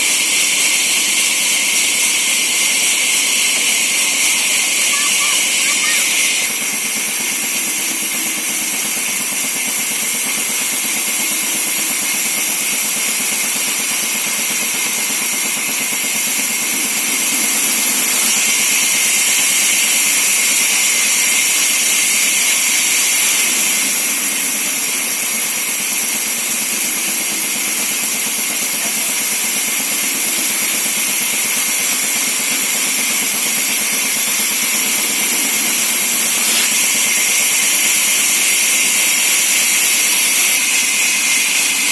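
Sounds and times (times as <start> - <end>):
band sawmill cutting timber: 0.0 - 41.9.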